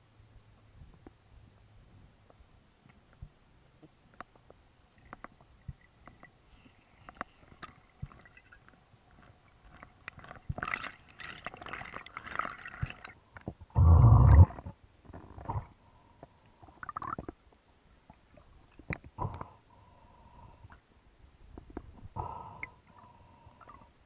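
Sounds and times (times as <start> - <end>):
small underwater clicks and crackles: 0.8 - 13.8, 14.4 - 24.0.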